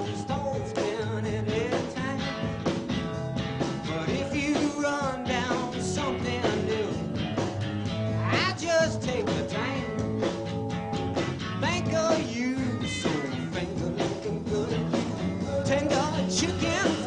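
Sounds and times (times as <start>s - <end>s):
person singing: 0.0s - 2.6s, 3.7s - 7.2s, 8.1s - 10.2s, 11.6s - 17.0s
drums beating: 0.0s - 17.0s
guitar: 0.0s - 17.0s
rock band music: 0.0s - 17.0s.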